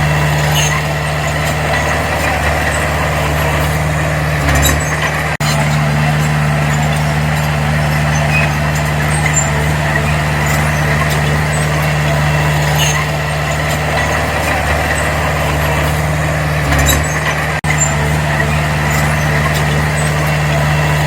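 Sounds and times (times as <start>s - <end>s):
diesel engine of heavy machinery: 0.0s - 21.0s.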